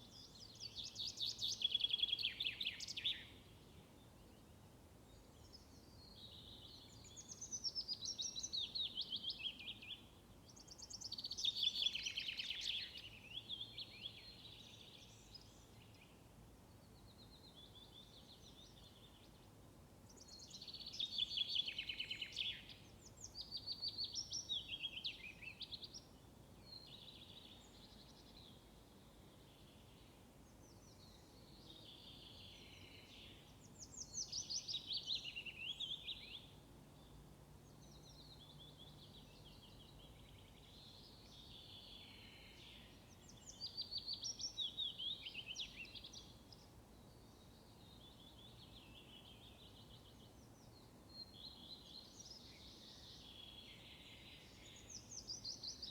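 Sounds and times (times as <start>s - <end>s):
faint background noise: 0.0s - 55.9s.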